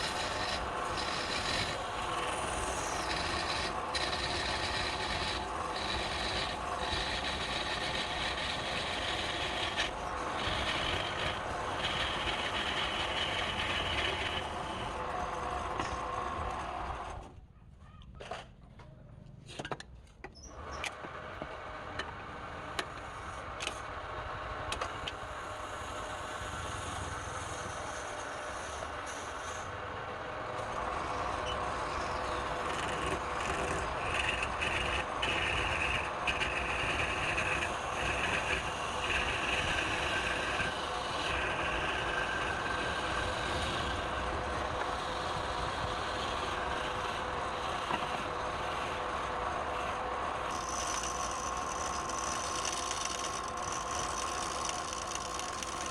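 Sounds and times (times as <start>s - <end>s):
wood lathe running: 0.0s - 17.2s, 24.9s - 55.9s
tool scraping spinning wood: 0.0s - 17.3s, 24.7s - 55.9s.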